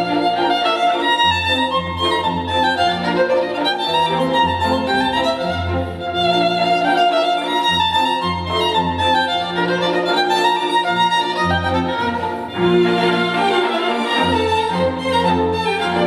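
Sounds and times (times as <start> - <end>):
violin melody over deep bass: 0.0 - 16.0.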